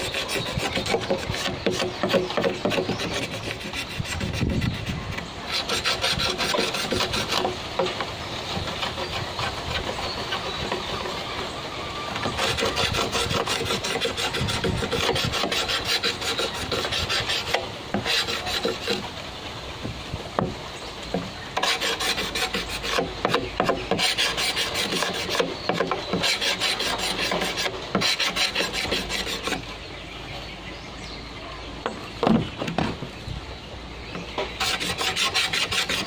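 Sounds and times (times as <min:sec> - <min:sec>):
blade scraping bamboo: 0:00.0 - 0:19.2, 0:20.4 - 0:29.8, 0:34.1 - 0:36.0.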